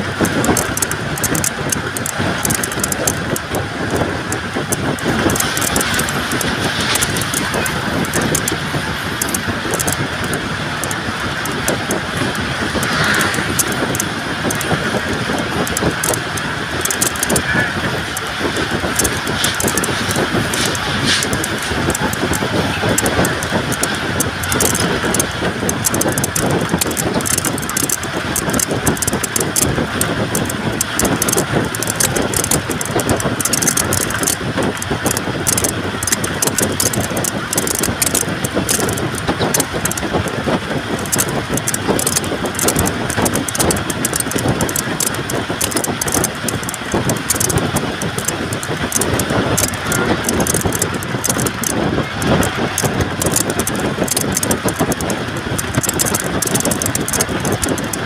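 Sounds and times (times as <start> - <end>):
fine continuous rattling: 0.0 - 58.0
vehicle interior rumble: 0.0 - 58.0.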